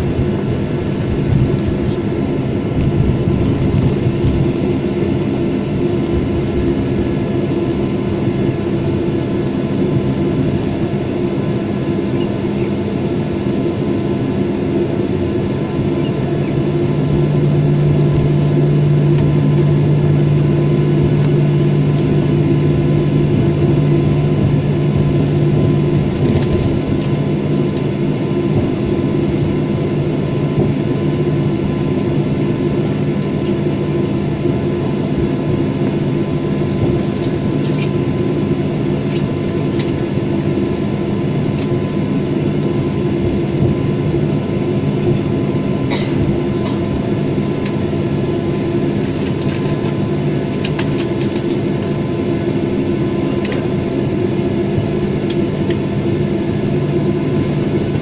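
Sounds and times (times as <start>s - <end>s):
jet engine drone: 0.0s - 58.0s.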